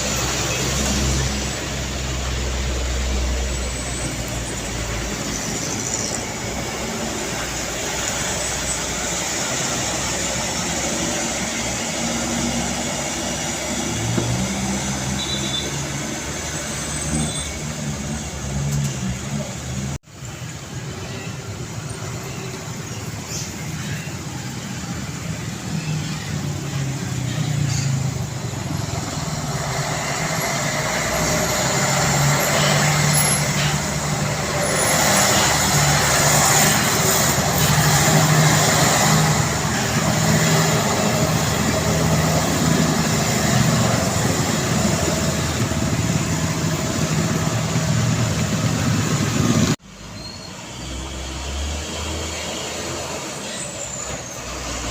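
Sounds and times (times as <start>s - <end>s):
heavy truck engine running: 0.0s - 54.9s.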